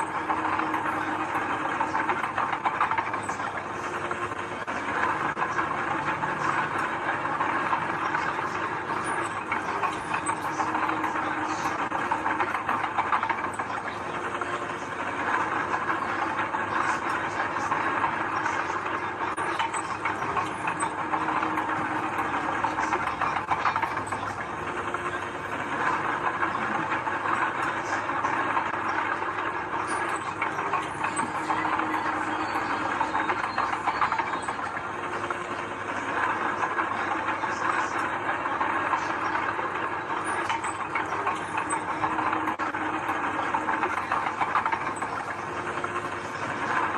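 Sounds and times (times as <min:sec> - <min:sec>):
continuous metallic clatter: 0:00.0 - 0:46.9
heavy machinery engine drone: 0:00.0 - 0:46.9.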